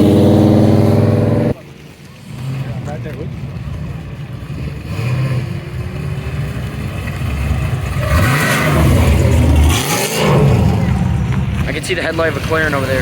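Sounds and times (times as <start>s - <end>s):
car engine revving: 0.0s - 1.6s, 2.2s - 13.0s.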